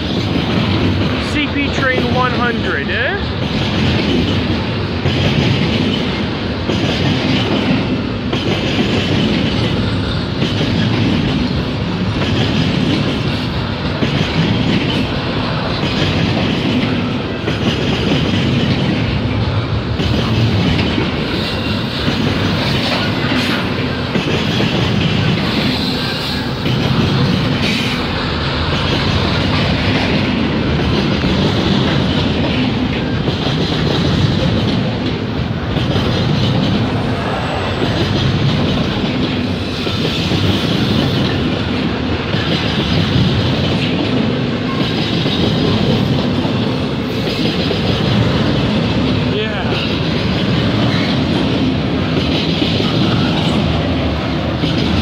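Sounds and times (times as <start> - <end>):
train rumbling past: 0.0 - 55.0
wheels clacking over rail joints: 0.0 - 55.0.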